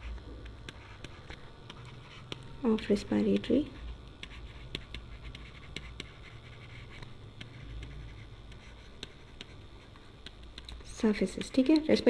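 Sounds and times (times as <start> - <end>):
low steady hum: 0.0 - 12.0
stylus tapping on pen tablet: 0.6 - 12.0.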